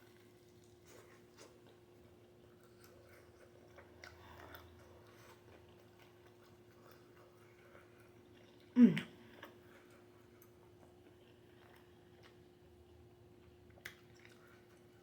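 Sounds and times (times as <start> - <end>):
person chewing: 0.1 - 12.6, 13.4 - 15.0.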